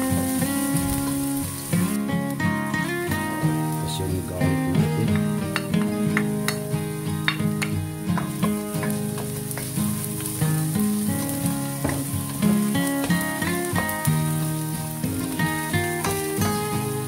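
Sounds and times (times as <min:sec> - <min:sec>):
background music of held notes: 0:00.0 - 0:17.0
onions sizzling in a pan: 0:00.0 - 0:17.0.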